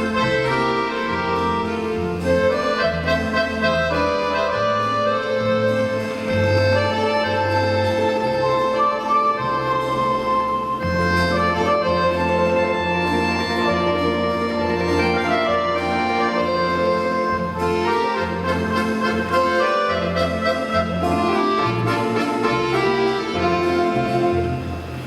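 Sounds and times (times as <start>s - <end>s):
folk instrument orchestra playing: 0.0s - 25.0s.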